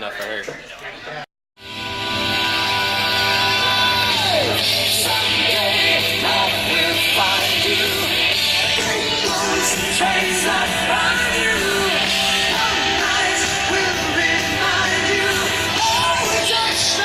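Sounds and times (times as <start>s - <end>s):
rock music: 1.6s - 17.0s
loud yelled vocal: 2.3s - 17.0s.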